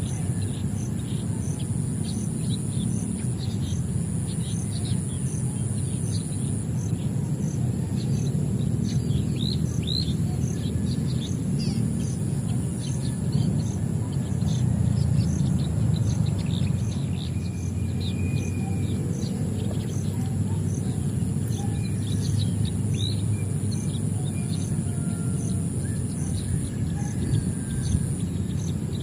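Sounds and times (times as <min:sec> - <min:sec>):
pulsing insect drone: 0:00.0 - 0:29.0
small birds chirping: 0:00.0 - 0:29.0.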